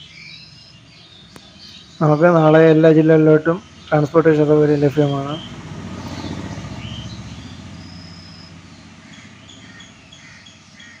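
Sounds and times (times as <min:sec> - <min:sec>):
low rumble of passing vehicle: 0:00.0 - 0:11.0
small birds chirping: 0:00.0 - 0:11.0.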